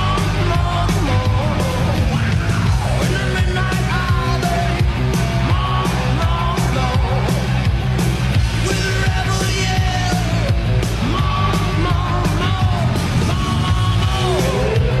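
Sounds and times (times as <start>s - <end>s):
rock song: 0.0s - 15.0s.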